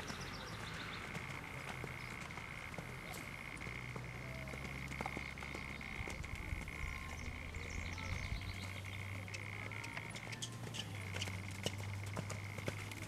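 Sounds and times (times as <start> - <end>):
horse hooves on dirt: 0.0 - 13.0.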